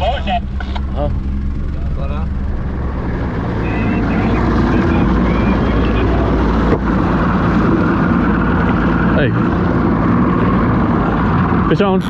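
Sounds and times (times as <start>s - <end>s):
outboard motor drone: 0.0s - 12.0s
wind: 0.0s - 12.0s.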